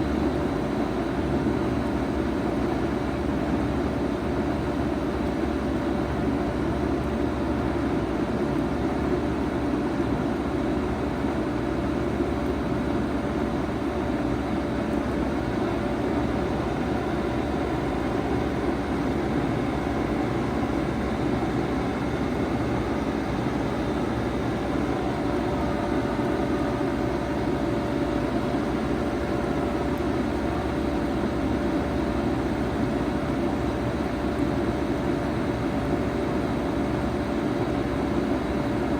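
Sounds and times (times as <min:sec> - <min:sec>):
heat pump hum: 0:00.0 - 0:38.9.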